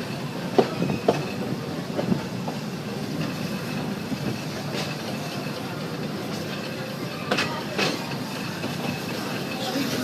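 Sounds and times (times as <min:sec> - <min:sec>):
steam train wheels running: 0:00.0 - 0:10.0
wheels clacking over rail joints: 0:00.0 - 0:10.0.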